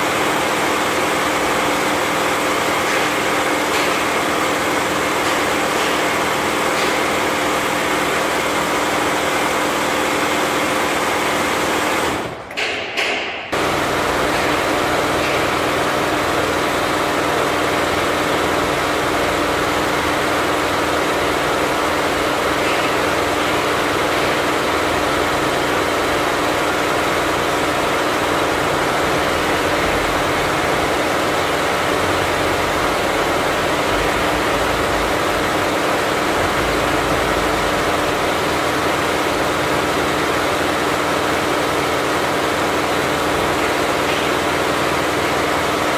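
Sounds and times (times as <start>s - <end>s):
embroidery machine clatter: 0.0s - 45.9s.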